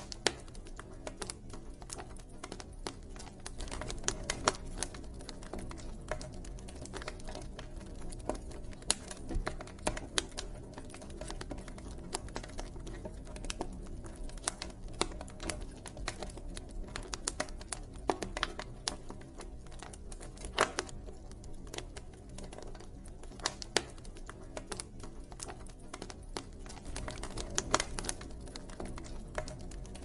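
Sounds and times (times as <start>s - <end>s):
low rumble of flames: 0.0s - 30.0s
wood crackling and popping: 0.0s - 30.0s.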